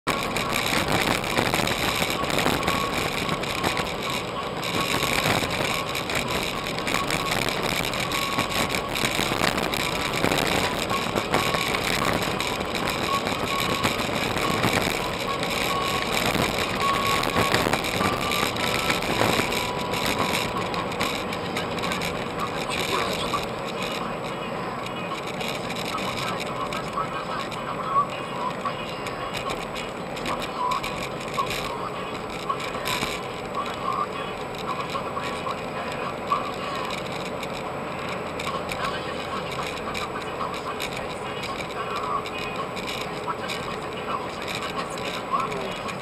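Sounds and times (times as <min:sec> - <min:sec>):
car road and engine noise: 0:00.0 - 0:46.0.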